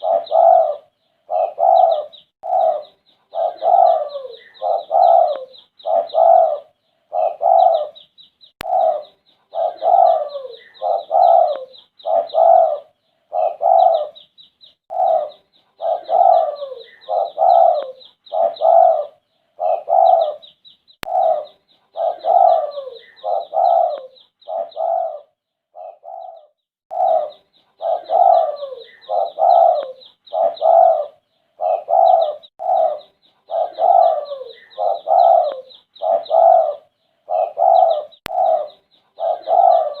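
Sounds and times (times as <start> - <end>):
dove cooing: 0.0 - 14.3, 14.9 - 40.0
high bird chirping: 0.0 - 40.0.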